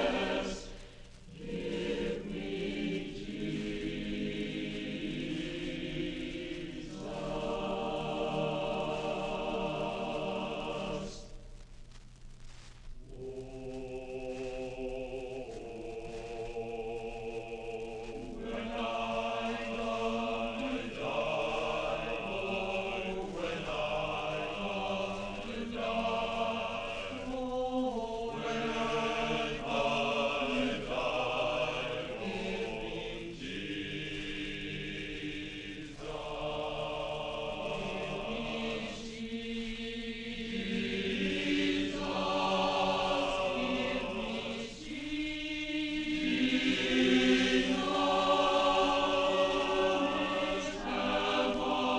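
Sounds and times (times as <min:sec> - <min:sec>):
choir singing sustained chords: 0:00.0 - 0:11.6, 0:13.0 - 0:51.9.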